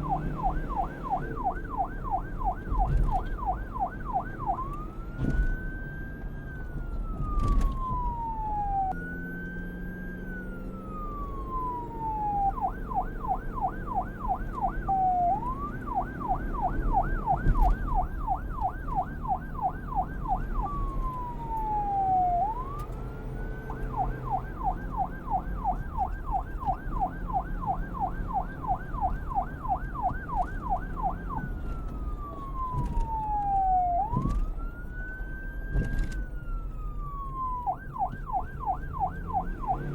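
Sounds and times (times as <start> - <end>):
police car siren: 0.0 - 39.9.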